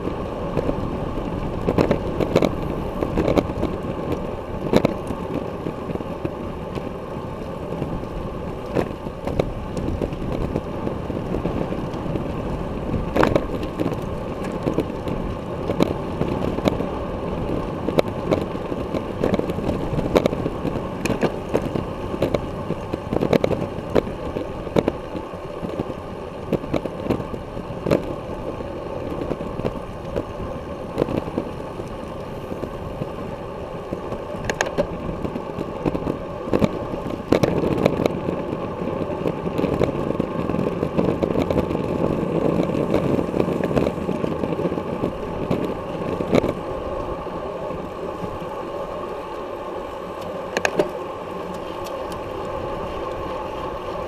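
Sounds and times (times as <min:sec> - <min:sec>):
bicycle knocks and rattles: 0:00.0 - 0:48.6, 0:50.1 - 0:54.0
tyre and road noise: 0:00.0 - 0:54.0
wind buffeting microphone: 0:00.0 - 0:54.0.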